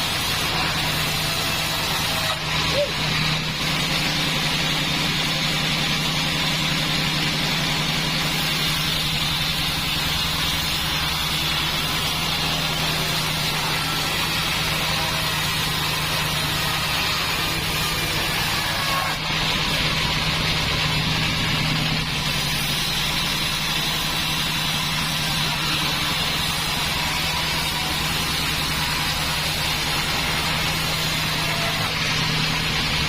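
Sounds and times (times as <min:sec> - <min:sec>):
bandsaw machine humming: 0:00.0 - 0:33.0.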